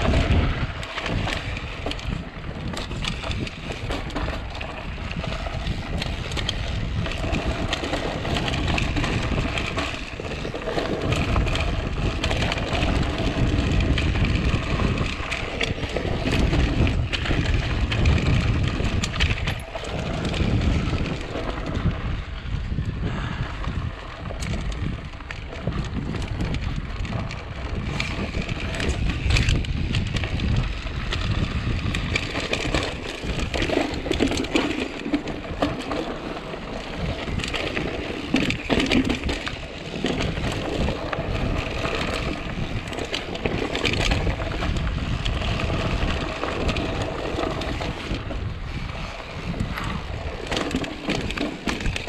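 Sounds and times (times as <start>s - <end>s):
bike rattling over bumps: 0.0s - 52.0s
wind rumble on microphone: 0.0s - 52.0s.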